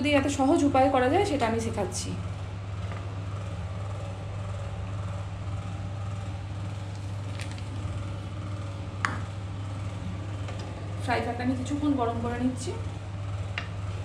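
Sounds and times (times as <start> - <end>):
kitchen background hum: 0.0 - 14.0.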